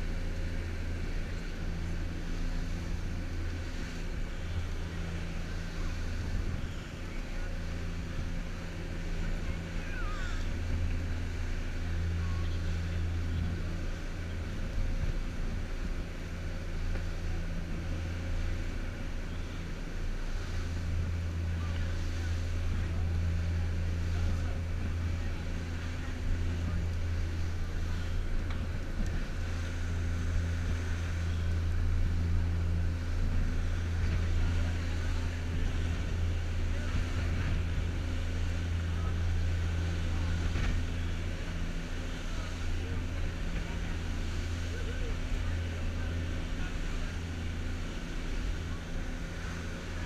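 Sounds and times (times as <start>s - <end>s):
boat engines droning: 0.0s - 50.0s
rushing wind and water: 0.0s - 50.0s.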